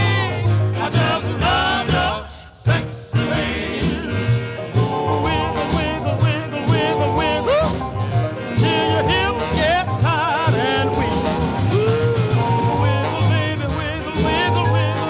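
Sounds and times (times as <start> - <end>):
person singing with trills: 0.0 - 15.0.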